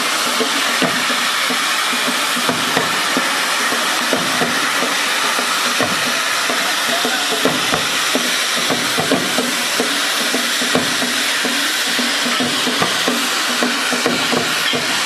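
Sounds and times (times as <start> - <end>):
firework crackles: 0.0 - 15.0
firework fountain hissing: 0.0 - 15.0.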